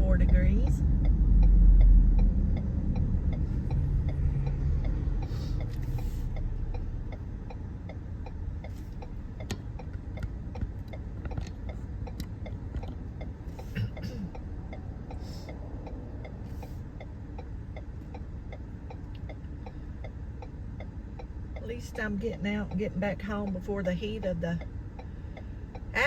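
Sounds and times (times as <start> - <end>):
car turn signal clicking: 0.0 - 26.0
road and engine rumble: 0.0 - 26.0.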